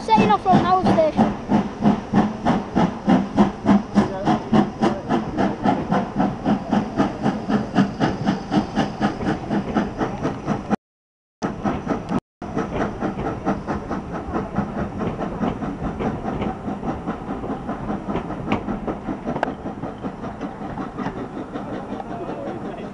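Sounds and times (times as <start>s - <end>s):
steam train rhythmic beats: 0.0s - 10.8s, 11.4s - 22.9s.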